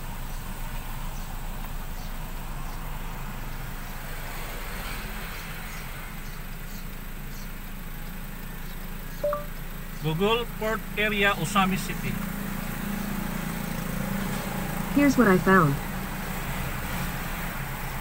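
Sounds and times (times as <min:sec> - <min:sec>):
car engine and road hum: 0:00.0 - 0:18.0.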